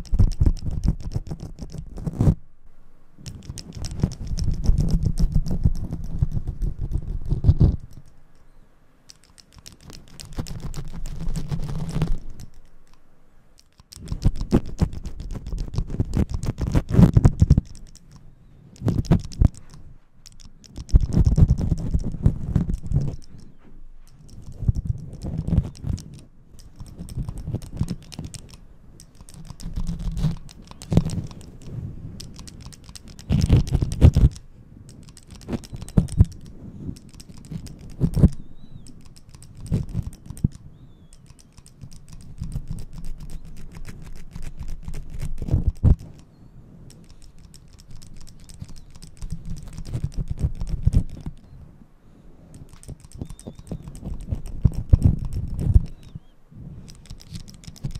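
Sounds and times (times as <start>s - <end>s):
rubbing on furry microphone cover: 0.0s - 2.4s, 3.3s - 8.1s, 9.2s - 12.8s, 14.0s - 40.7s, 41.3s - 46.2s, 46.8s - 51.6s, 52.5s - 57.9s.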